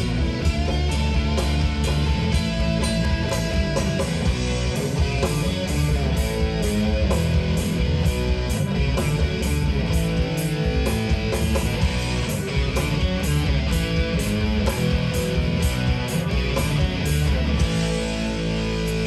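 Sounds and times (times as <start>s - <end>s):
bass guitar: 0.0s - 19.0s
drums with steady beat: 0.0s - 19.0s
electric guitar: 0.0s - 19.0s.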